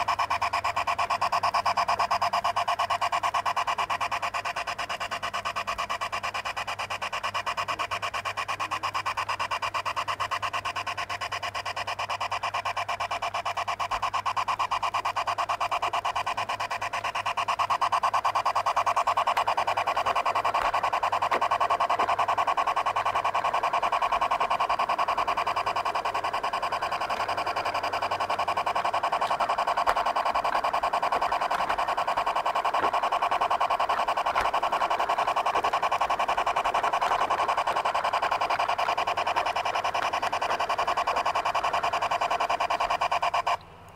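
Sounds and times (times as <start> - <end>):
model locomotive whirring: 0.0 - 43.9.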